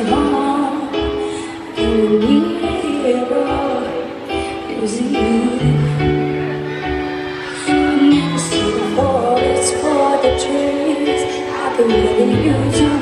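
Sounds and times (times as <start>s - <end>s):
woman singing: 0.0s - 6.5s, 7.5s - 13.0s.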